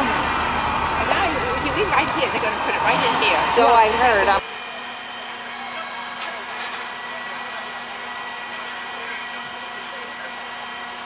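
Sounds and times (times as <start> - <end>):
crane engine droning: 0.0 - 11.0.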